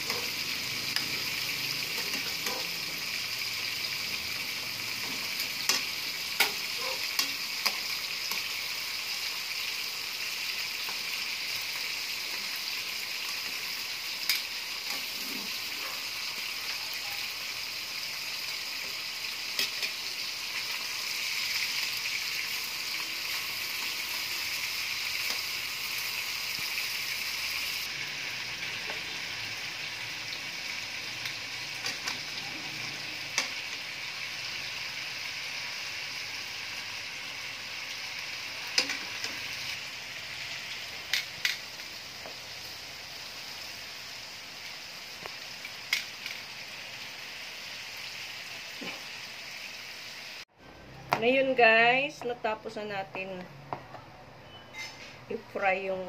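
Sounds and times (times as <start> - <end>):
chicken sizzling in oil: 0.0 - 50.5.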